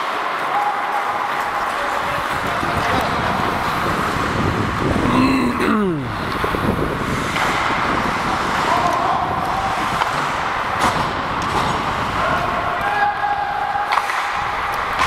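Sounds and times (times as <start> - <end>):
skate blades on ice: 0.0 - 5.0, 6.2 - 15.0
wind noise on microphone: 1.6 - 15.0.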